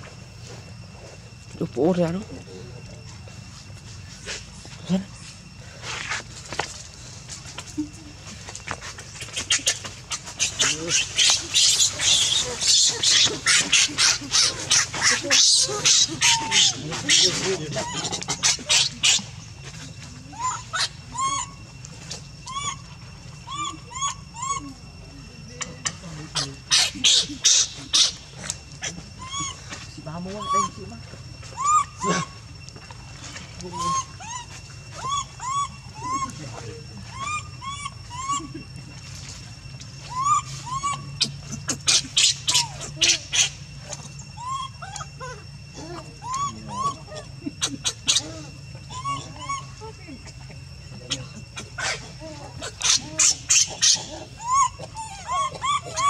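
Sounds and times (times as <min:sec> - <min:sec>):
baby monkey calling: 0:07.5 - 0:32.6, 0:33.2 - 0:39.2, 0:39.8 - 0:56.0.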